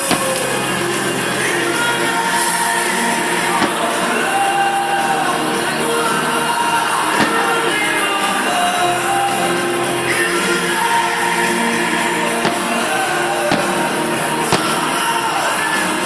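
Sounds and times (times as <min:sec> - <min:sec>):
firework bursts: 0:00.0 - 0:16.0
rock song with singing: 0:00.0 - 0:16.0.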